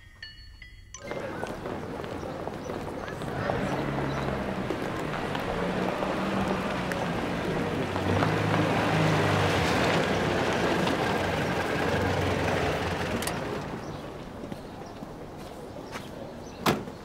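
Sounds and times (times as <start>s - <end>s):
street noise: 0.0s - 17.0s
car engine humming: 1.0s - 15.4s.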